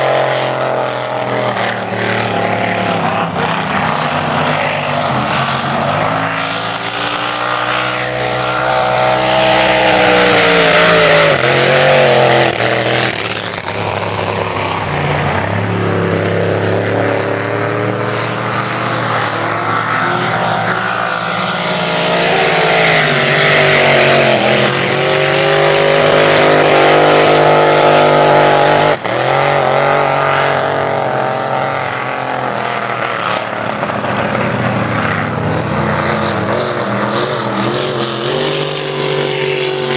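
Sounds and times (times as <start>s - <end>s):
powerboat engines racing: 0.0s - 39.9s.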